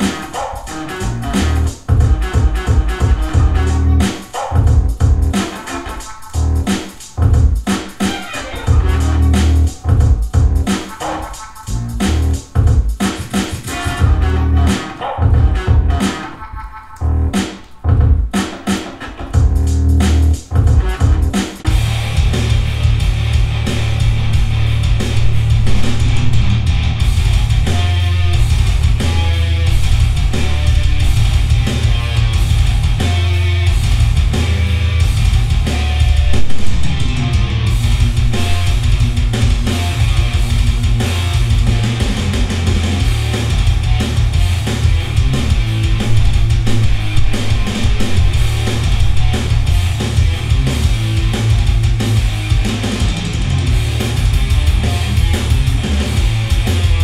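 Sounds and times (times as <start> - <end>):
rock music over speakers: 0.0 - 57.0.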